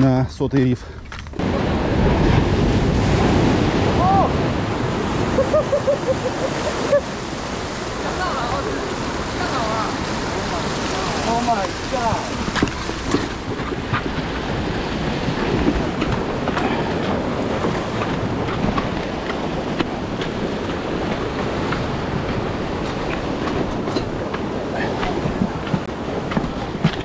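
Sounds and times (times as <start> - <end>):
surf breaking over rocks: 1.4 - 27.0.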